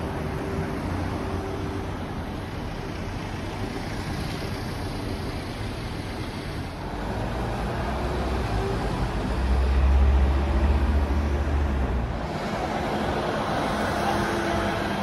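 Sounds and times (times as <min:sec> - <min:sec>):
buses driving past: 0:00.0 - 0:15.0.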